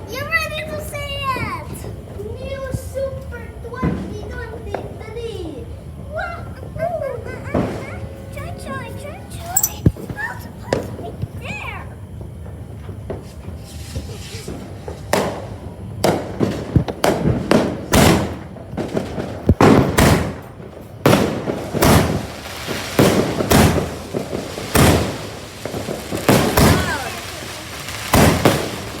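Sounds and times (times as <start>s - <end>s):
firecrackers banging with echo: 3.6s - 29.0s.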